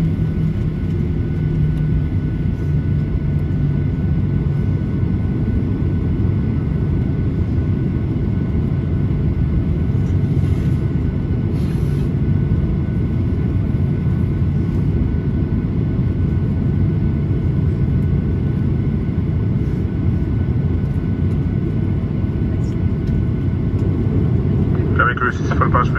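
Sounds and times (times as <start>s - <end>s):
airplane cabin rumble: 0.0s - 25.9s
jet engine high whine: 0.0s - 25.9s.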